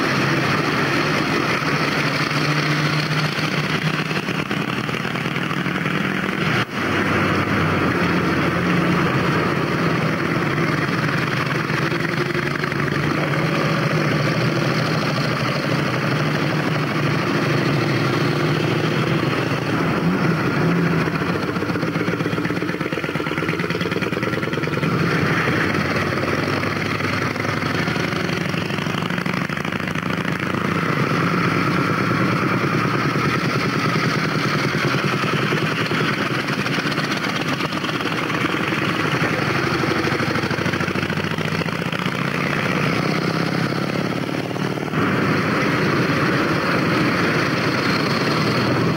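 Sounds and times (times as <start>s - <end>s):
motorcycle engines idling: 0.0s - 48.9s.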